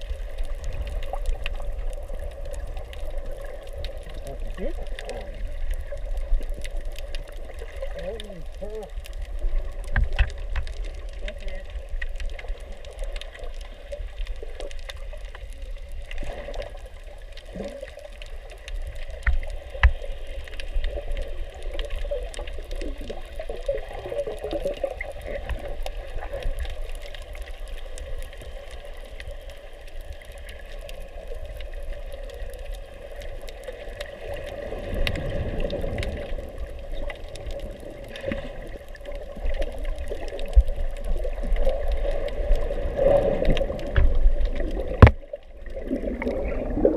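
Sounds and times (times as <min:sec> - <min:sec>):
faint clicks: 0:00.0 - 0:46.3
low rushing water: 0:00.0 - 0:46.9
muffled underwater sloshing and bubbling: 0:00.0 - 0:46.9.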